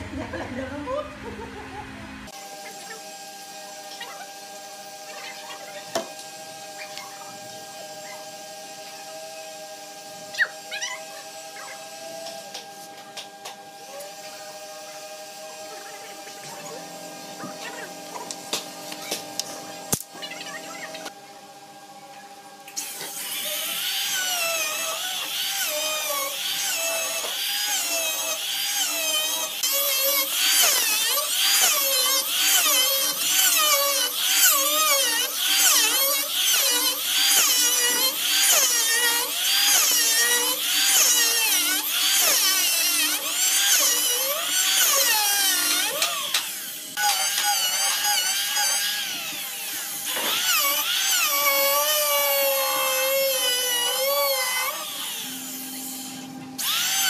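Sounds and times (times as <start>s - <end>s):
electric hand planer whining: 2.2s - 57.0s.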